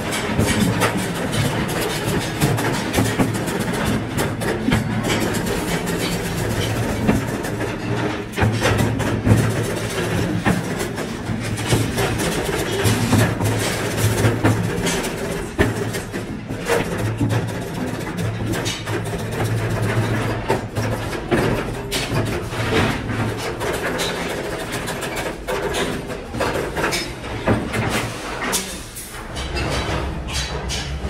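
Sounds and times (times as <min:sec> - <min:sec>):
workshop machinery humming: 0:00.0 - 0:31.0.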